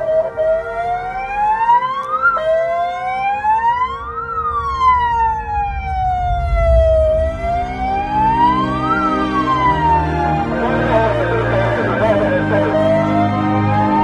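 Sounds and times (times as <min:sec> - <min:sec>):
ambulance siren wailing: 0:00.0 - 0:14.0
low vehicle rumble: 0:02.4 - 0:14.0.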